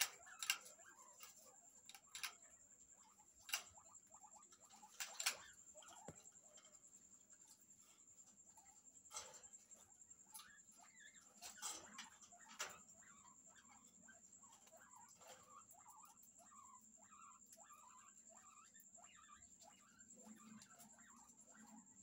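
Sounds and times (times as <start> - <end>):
guinea pigs squeaking: 0.0 - 22.0.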